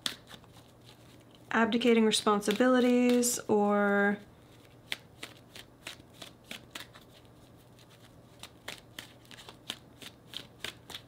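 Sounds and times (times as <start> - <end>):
cards being shuffled by hand: 0.0 - 3.4, 4.4 - 11.0.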